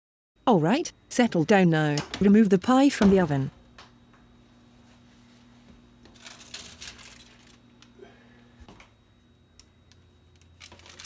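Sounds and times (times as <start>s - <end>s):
low oven hum: 0.4s - 11.0s.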